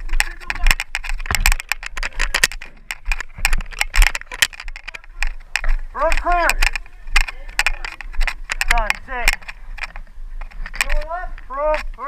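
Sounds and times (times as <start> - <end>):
irregular clatter of sharp clicks: 0.0 - 11.1.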